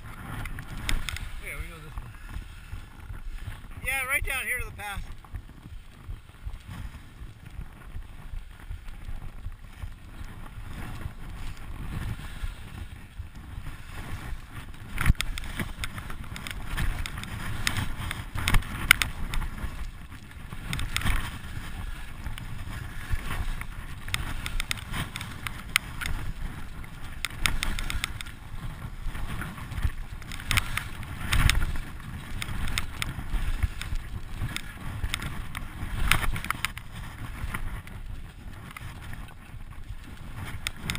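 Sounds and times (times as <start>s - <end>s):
skis scraping over snow: 0.0s - 40.9s
wind rumbling on microphone: 0.0s - 40.9s.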